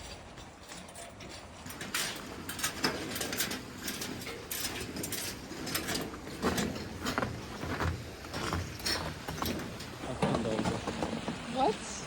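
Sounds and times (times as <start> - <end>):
footsteps crunching in snow: 0.0 - 11.2.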